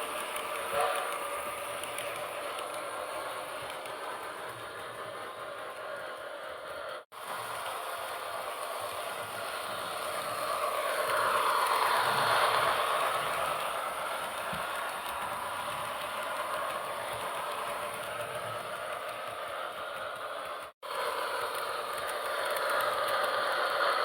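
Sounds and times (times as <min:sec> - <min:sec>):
model train wheels clattering: 0:00.0 - 0:24.0.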